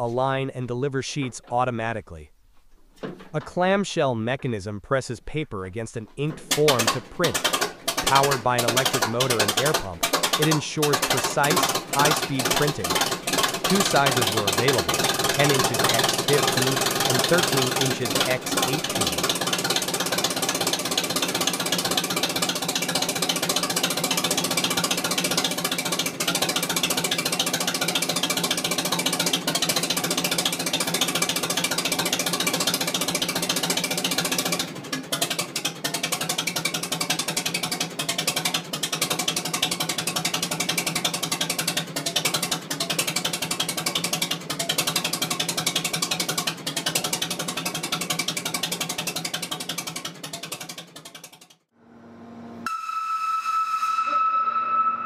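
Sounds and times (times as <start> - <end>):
tractor engine running: 0.0 - 51.7.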